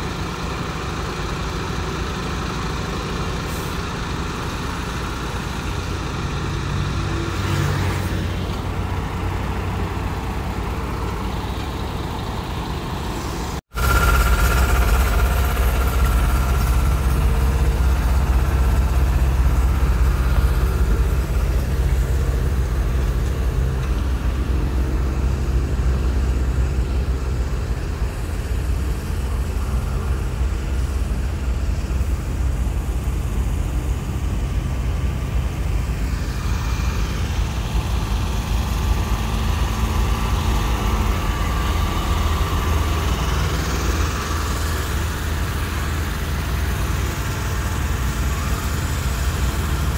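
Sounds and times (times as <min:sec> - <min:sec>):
diesel truck engines rumbling: 0:00.0 - 0:49.9.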